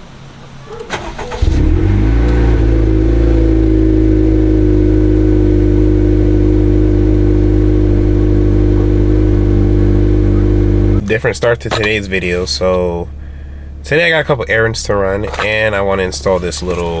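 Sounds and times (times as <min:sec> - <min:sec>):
car engine starting and idling: 0:00.8 - 0:17.0.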